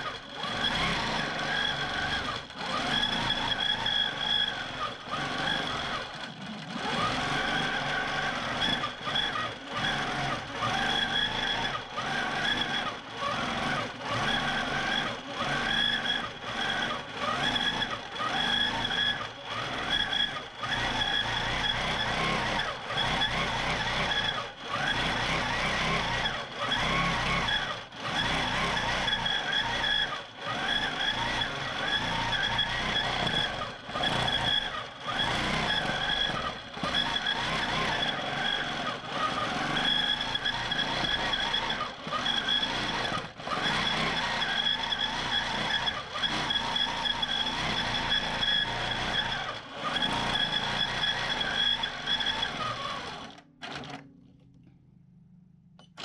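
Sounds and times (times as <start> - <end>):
quilting machine stitching: 0.0 - 54.1.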